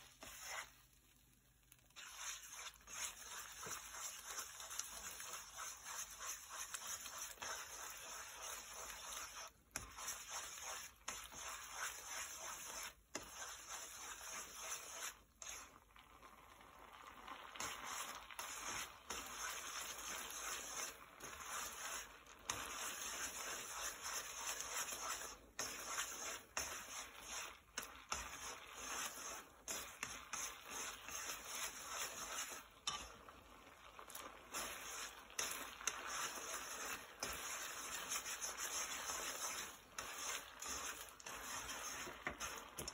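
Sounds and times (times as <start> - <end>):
utensils scraping a pan: 0.0 - 0.8, 1.9 - 15.8, 17.5 - 42.9
sauce sizzling in a frying pan: 0.0 - 42.9.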